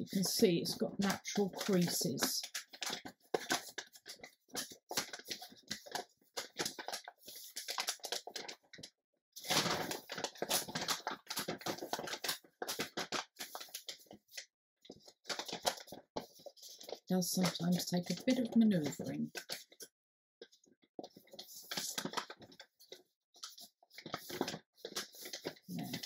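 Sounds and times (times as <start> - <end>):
paper bag crinkling: 0.0 - 19.9, 21.0 - 26.0.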